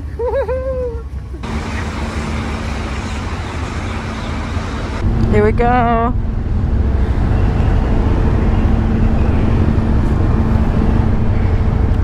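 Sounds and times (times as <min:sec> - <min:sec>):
constant hum: 0:00.0 - 0:12.0
motorcycle engine rumbling: 0:01.4 - 0:12.0.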